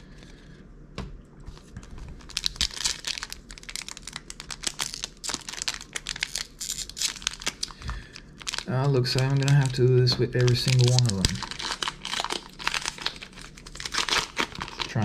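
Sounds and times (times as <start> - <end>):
foil wrapper crinkling and tearing: 1.6 - 15.0.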